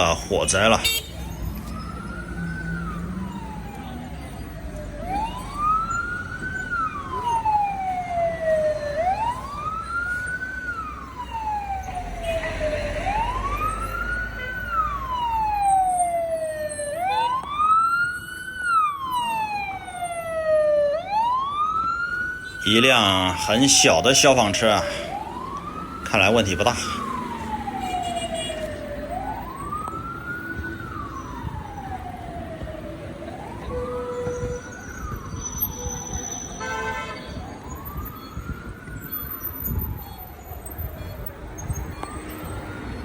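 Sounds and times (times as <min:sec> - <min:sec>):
fire engine siren wailing: 0:00.0 - 0:43.0.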